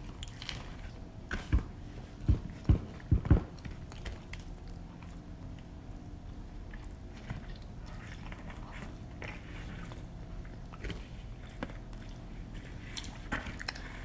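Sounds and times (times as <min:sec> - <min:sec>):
chewing pizza: 0:00.0 - 0:01.2, 0:03.5 - 0:14.0
faint steady hum: 0:00.0 - 0:14.0.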